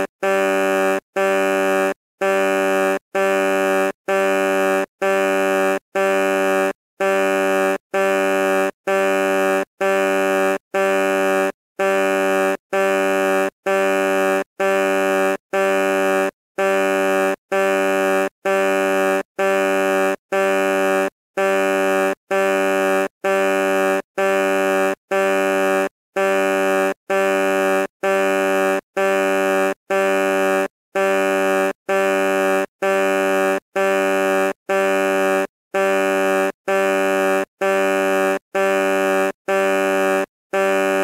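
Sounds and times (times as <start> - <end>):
truck horn short blasts: 0.0 - 41.0.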